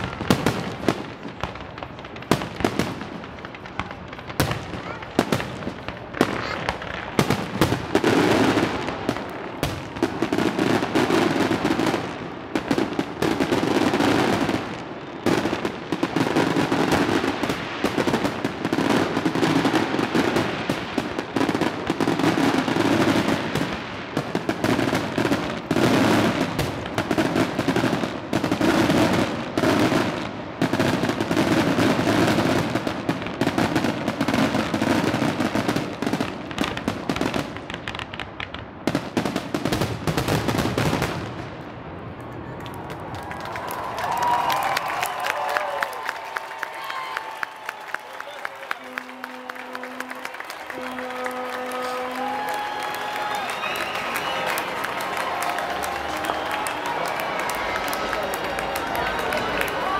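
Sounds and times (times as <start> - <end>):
fireworks bursting: 0.0 - 43.0, 44.0 - 59.9.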